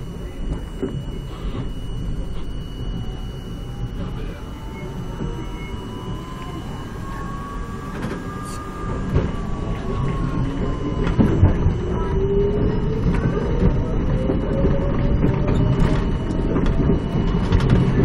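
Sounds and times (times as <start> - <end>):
motor whine rising in pitch: 0.0 - 18.0
train wheels rumbling on rails: 0.0 - 18.0.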